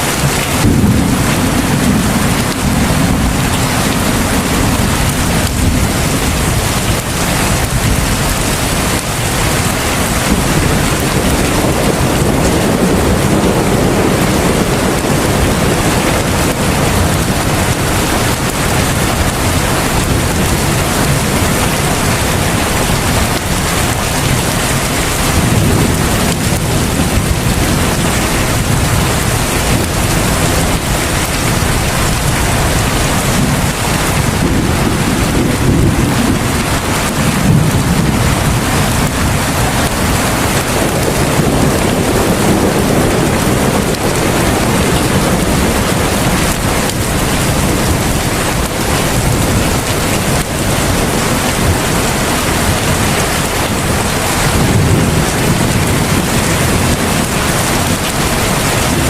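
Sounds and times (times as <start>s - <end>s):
heavy rain hissing: 0.0s - 59.0s
low rumble: 0.0s - 59.0s.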